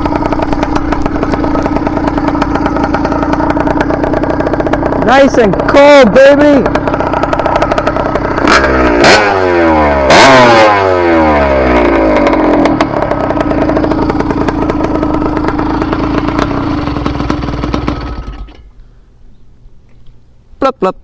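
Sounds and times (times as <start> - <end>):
two-stroke engine revving and idling: 0.0 - 18.7.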